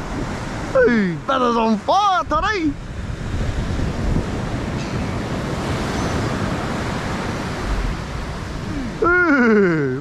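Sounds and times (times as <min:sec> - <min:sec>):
wind buffeting microphone: 0:00.0 - 0:09.2
surf breaking on beach: 0:00.0 - 0:10.0.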